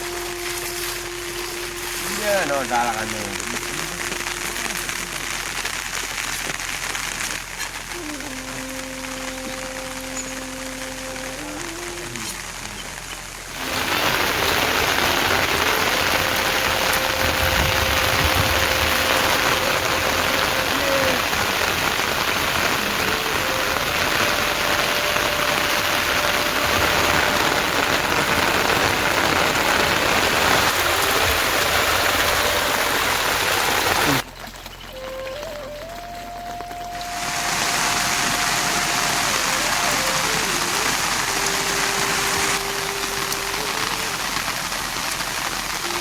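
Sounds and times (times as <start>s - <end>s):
faint music: 0.0s - 46.0s
heavy rain hissing: 0.0s - 46.0s.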